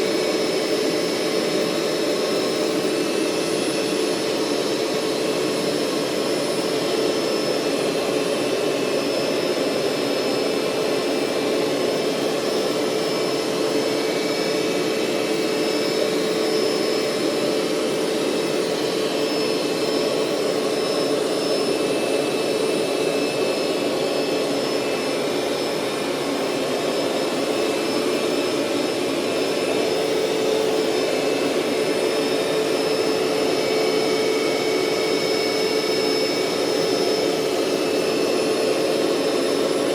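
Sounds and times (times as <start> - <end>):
carpet cleaner suction and whine: 0.0 - 39.9.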